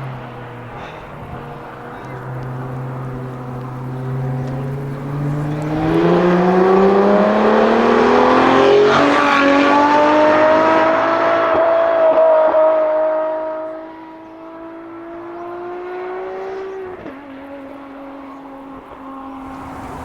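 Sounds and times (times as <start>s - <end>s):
sports car engine accelerating: 0.0s - 20.0s.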